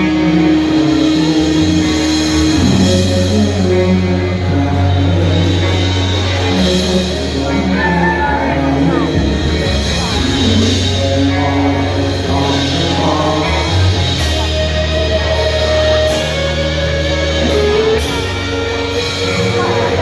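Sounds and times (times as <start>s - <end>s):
electric guitar melody: 0.0s - 20.0s
live rock band playing: 0.0s - 20.0s.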